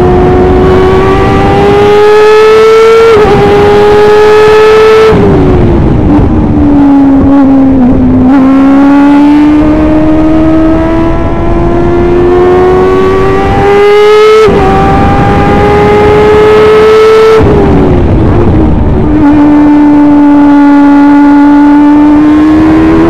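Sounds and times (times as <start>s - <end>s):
race car engine at high revs: 0.0s - 23.0s.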